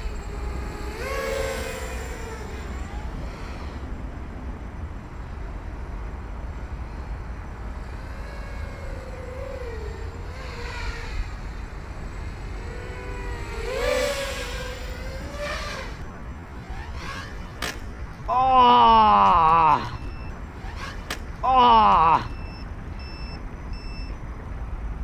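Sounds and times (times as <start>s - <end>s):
quadcopter motors whining: 0.0s - 24.2s.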